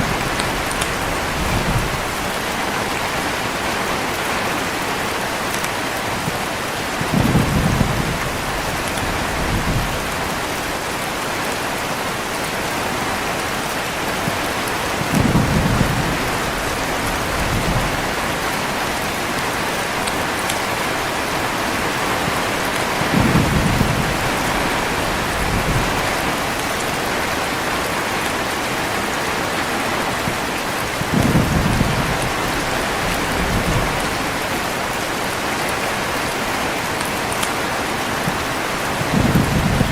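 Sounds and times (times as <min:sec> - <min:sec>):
thunder rumbling: 0:00.0 - 0:04.8, 0:06.0 - 0:11.5, 0:12.9 - 0:28.2, 0:29.8 - 0:37.0, 0:38.0 - 0:39.9
heavy rain: 0:00.0 - 0:39.9.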